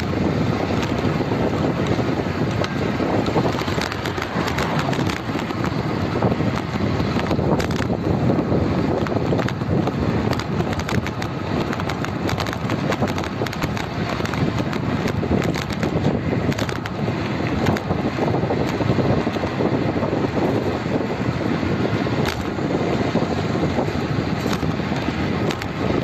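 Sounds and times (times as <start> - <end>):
small clicks and rattles: 0.0 - 8.1, 8.8 - 19.6, 22.1 - 23.1, 24.3 - 26.0
wind rushing over microphone: 0.0 - 26.0.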